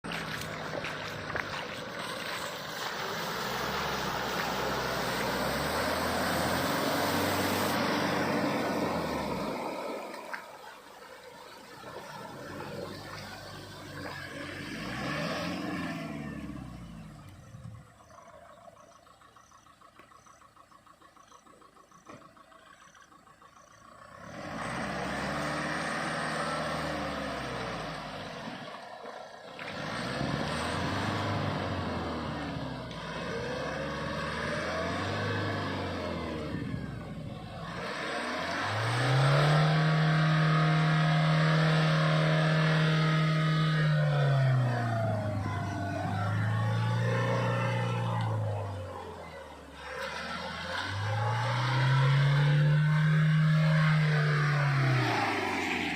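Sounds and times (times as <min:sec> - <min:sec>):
diesel engine revving: 0:00.0 - 0:55.9.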